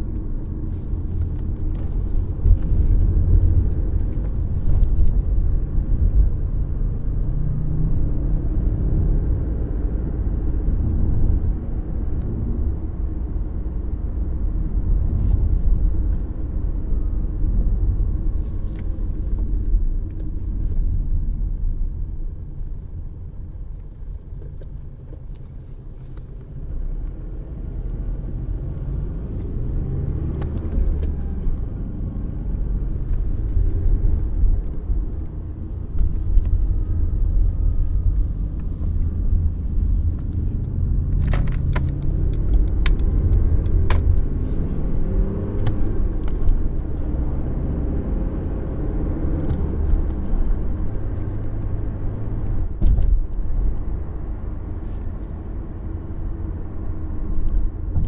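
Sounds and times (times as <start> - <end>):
diesel car engine: 0.0 - 58.0.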